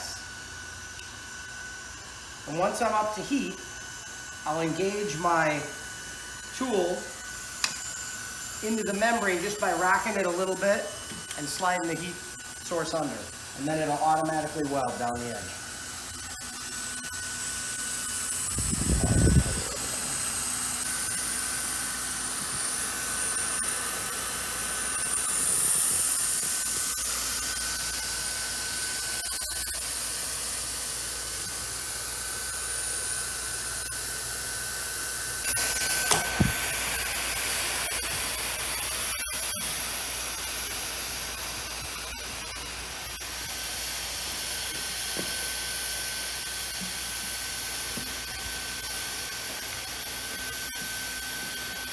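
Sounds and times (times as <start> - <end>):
hot-air welder blower hissing: 0.0 - 51.9.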